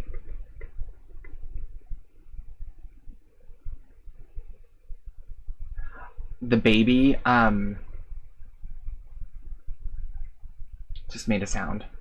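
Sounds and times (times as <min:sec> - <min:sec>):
faint hiss: 0:00.0 - 0:12.0
low background rumble: 0:00.0 - 0:12.0.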